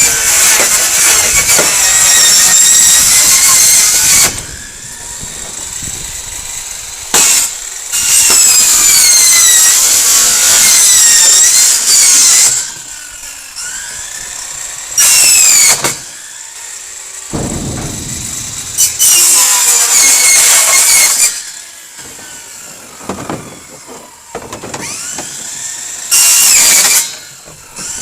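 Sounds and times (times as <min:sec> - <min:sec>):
circular saw cutting wood: 0:00.0 - 0:28.0.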